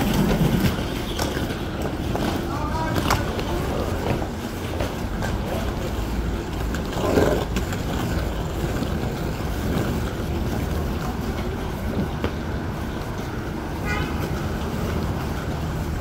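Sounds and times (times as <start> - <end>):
train rumble and hiss: 0.0 - 16.0.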